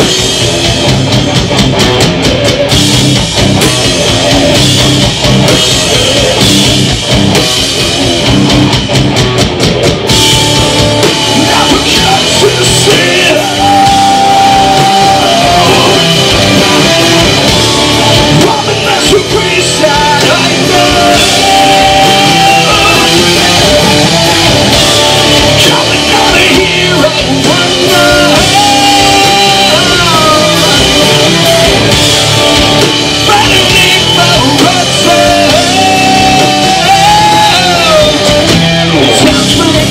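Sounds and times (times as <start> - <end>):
distorted electric guitars: 0.0 - 39.9
pounding drum kit: 0.0 - 39.9.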